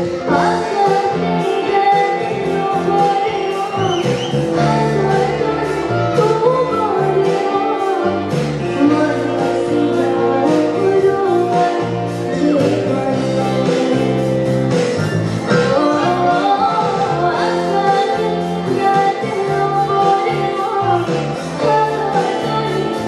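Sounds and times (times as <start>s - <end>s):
bass notes: 0.0s - 23.0s
live band: 0.0s - 23.0s
woman singing into microphone: 0.0s - 23.0s.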